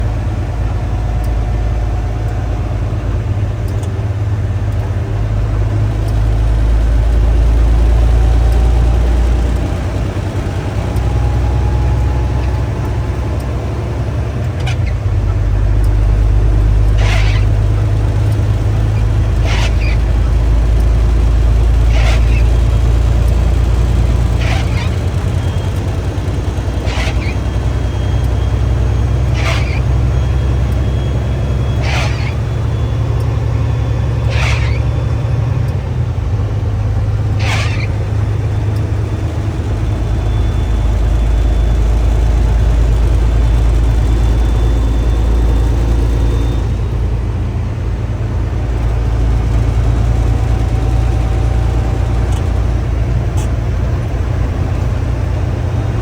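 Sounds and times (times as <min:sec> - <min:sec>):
vehicle road and engine rumble: 0:00.0 - 0:56.0.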